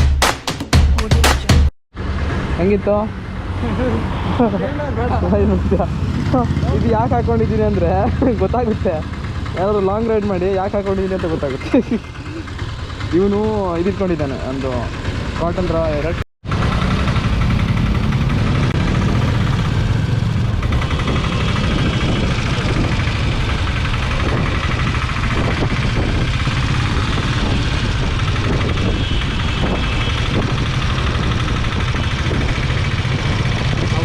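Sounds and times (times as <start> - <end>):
motorcycle engine droning: 2.8 - 34.0.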